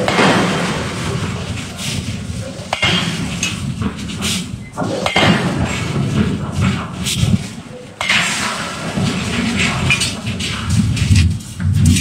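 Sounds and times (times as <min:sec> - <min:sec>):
forge machinery noise: 0:00.0 - 0:12.0.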